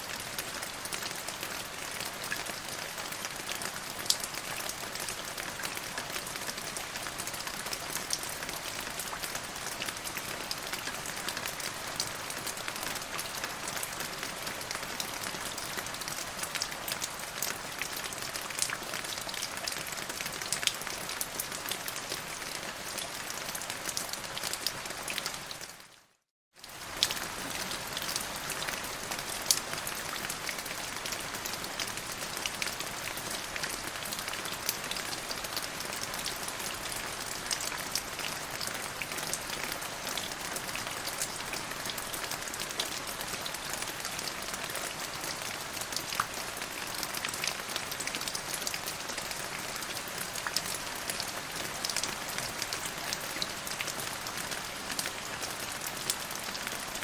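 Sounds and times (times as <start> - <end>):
rain falling with drop ticks: 0.0 - 57.0.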